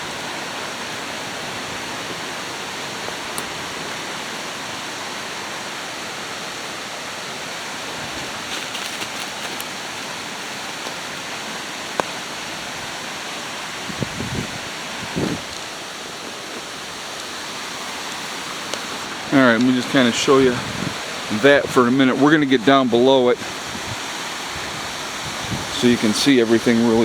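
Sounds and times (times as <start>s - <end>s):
water rushing over waterfall: 0.0s - 27.0s.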